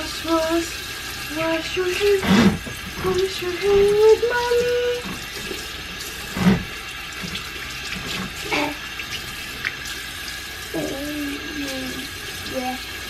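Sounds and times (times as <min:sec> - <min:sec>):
water running into basin: 0:00.0 - 0:13.0.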